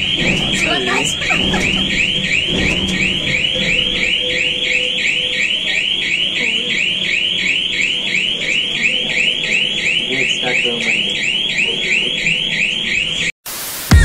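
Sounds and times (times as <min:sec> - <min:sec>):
rising electronic alarm chirps: 0:00.0 - 0:13.3.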